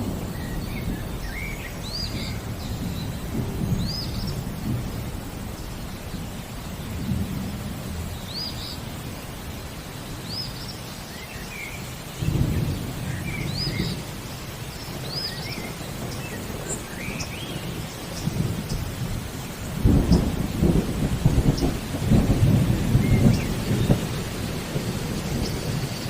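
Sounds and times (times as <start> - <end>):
thunder rumbling: 0.0 - 9.7, 11.1 - 26.0
steady rain: 0.0 - 26.0.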